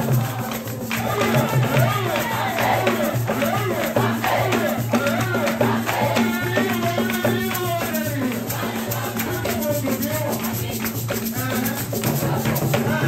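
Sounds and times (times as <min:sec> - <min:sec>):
shaker rattling: 0:00.0 - 0:13.0
voices singing: 0:00.0 - 0:13.0.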